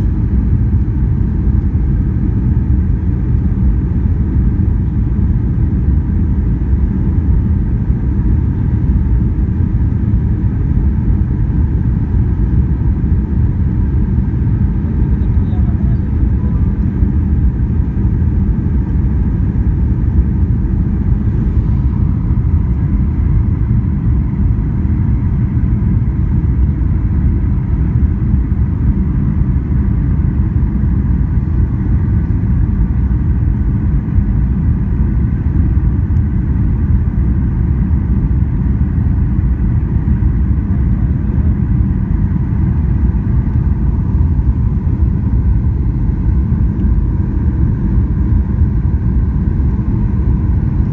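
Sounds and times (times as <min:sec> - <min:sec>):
airliner cabin rumble: 0:00.0 - 0:50.9
faint steady hum: 0:00.0 - 0:50.9.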